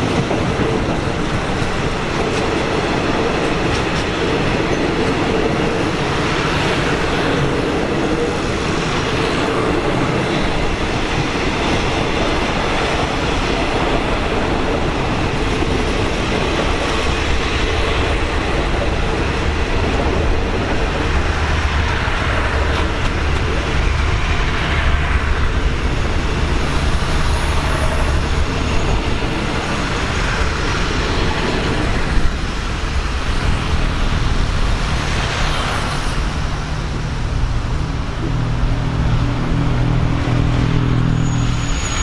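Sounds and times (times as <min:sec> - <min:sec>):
cars passing over rail tracks: 0:00.0 - 0:42.0.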